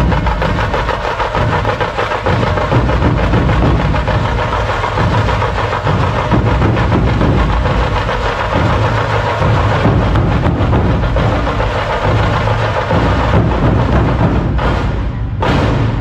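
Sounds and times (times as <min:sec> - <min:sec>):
dhol drums played with sticks: 0:00.0 - 0:16.0.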